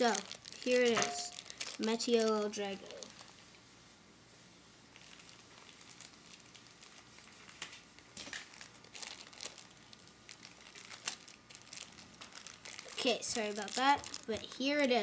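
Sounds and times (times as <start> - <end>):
packaging crinkling: 0.0 - 3.5, 4.9 - 15.0.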